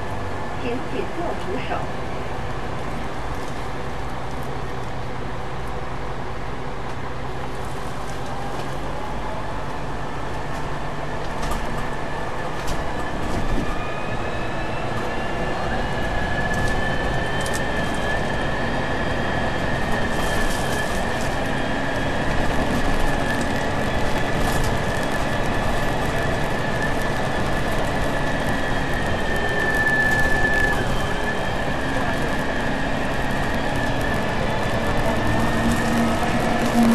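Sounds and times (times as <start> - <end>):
bus engine and road rumble: 0.0 - 36.9
high drivetrain whine: 1.9 - 36.9.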